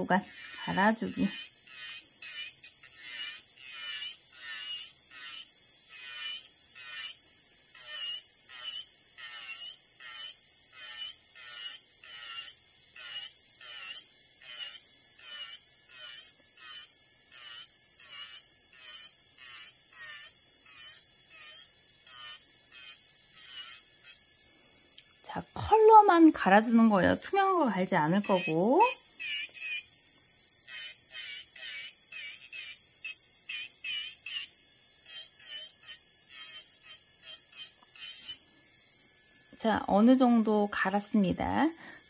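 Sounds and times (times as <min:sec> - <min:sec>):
electric nail drill grinding: 0:00.0 - 0:42.0.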